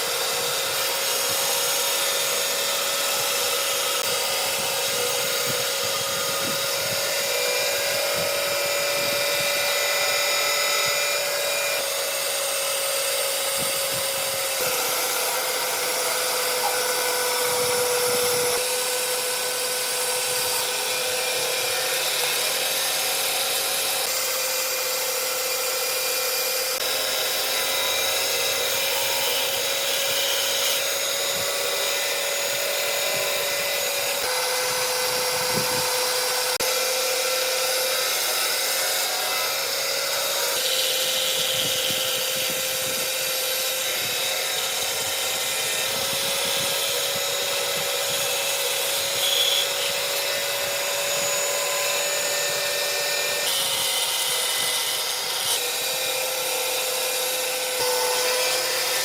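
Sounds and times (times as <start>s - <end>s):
power tool whining on wood: 0.0s - 59.0s.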